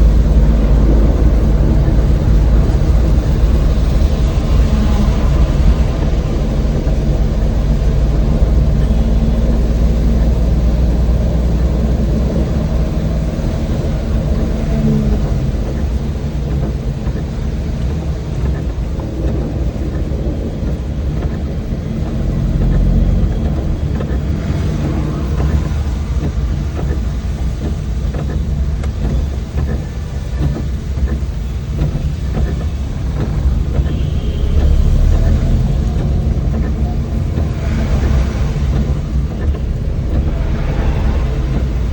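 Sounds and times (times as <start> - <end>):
road noise: 0.0 - 41.9
van engine hum: 0.0 - 41.9.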